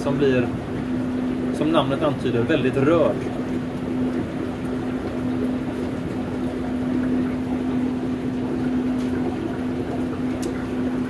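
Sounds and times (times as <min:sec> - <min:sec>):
aquarium pumps humming: 0:00.0 - 0:11.0.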